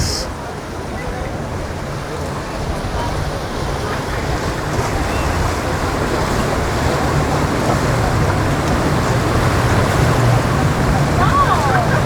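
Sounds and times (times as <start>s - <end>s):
boat engines humming: 0.0s - 12.0s
waves: 0.0s - 12.0s.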